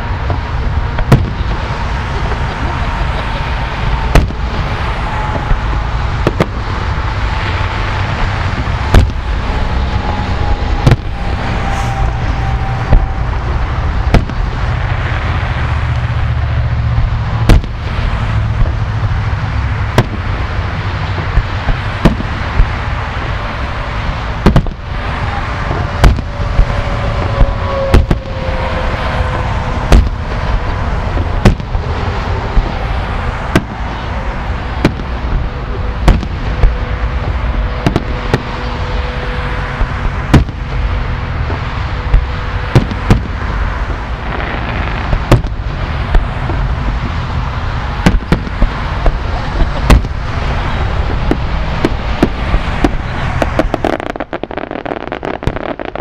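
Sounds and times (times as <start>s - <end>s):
fireworks bursting with sharp bangs: 0.0s - 56.0s
steady low rumble: 0.0s - 56.0s.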